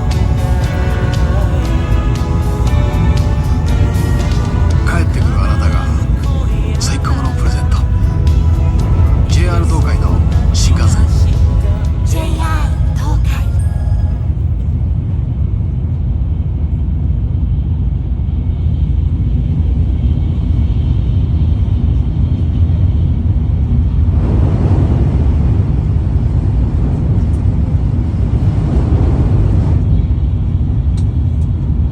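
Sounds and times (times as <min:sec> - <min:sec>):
rush of noise: 0:00.0 - 0:31.9
train rumbling: 0:00.0 - 0:31.9.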